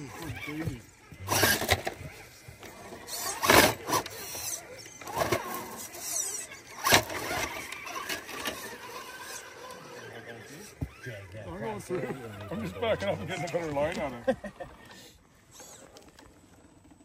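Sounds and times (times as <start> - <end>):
electric motor and gears whining: 0.0 - 17.0.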